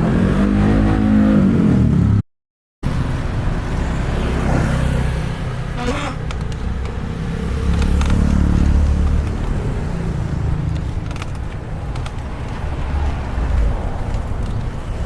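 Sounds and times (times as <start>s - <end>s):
road traffic: 0.0s - 2.2s, 2.8s - 15.0s.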